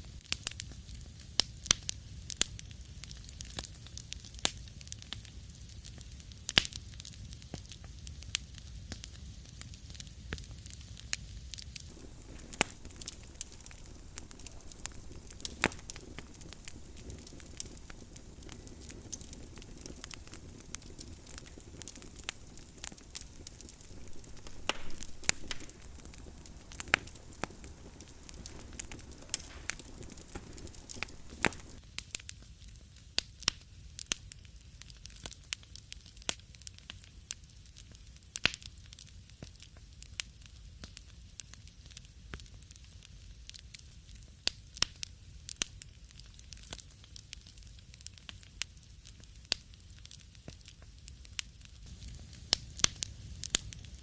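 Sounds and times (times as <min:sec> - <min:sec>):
wood fire crackling: 0:00.3 - 0:32.4, 0:41.4 - 0:54.0.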